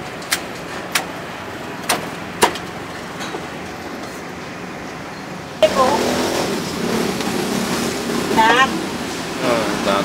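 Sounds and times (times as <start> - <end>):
street traffic: 0.0 - 10.0.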